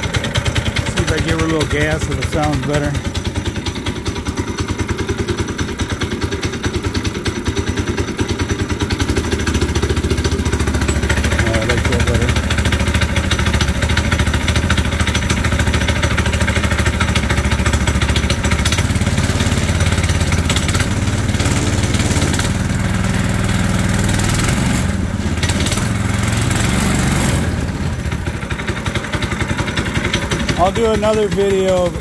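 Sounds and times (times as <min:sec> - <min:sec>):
small gas engine running: 0:00.0 - 0:32.0.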